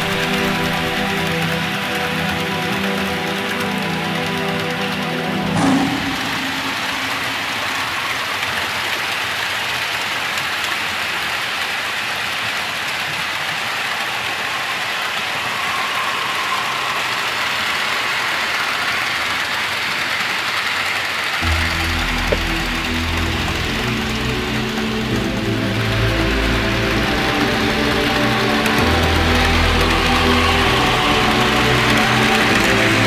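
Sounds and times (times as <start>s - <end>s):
model trains whirring on track: 0.0s - 33.0s.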